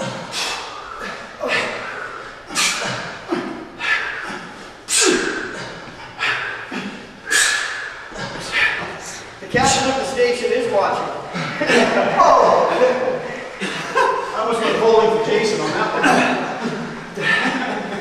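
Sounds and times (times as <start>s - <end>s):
men breathing forcefully: 0.0s - 18.0s.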